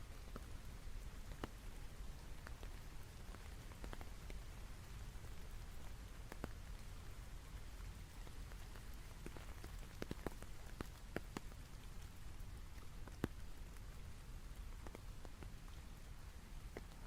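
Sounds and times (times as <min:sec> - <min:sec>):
rain hiss: 0:00.0 - 0:17.0
raindrops landing: 0:00.1 - 0:17.0.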